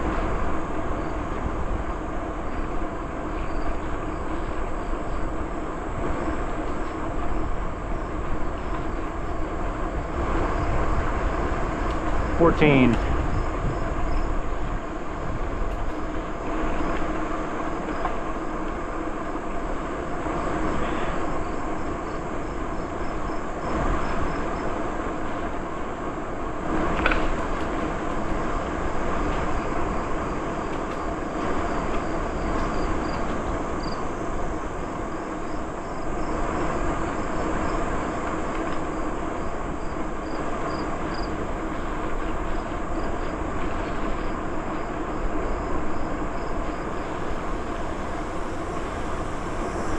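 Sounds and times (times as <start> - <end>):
bicycle tyres rolling on trail: 0.0 - 49.9
wind on microphone: 0.0 - 49.9.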